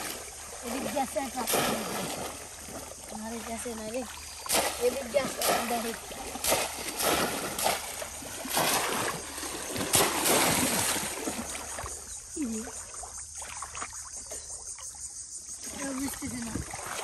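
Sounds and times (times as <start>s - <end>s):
water sloshing: 0.0s - 17.0s
water splashing: 0.0s - 17.0s.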